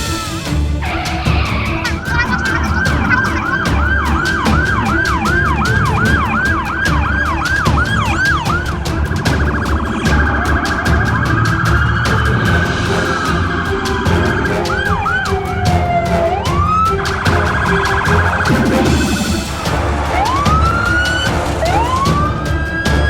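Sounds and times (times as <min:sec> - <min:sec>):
background music with steady beat: 0:00.0 - 0:23.0.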